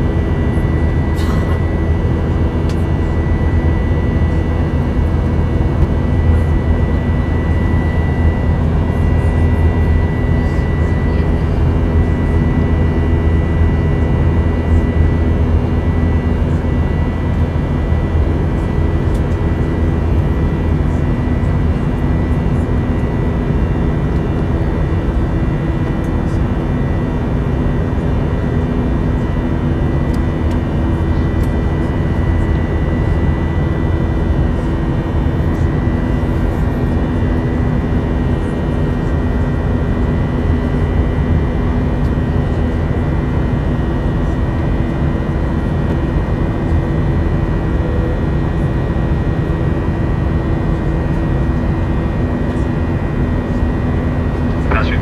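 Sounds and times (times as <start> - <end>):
jet cabin engine roar: 0.0 - 55.0.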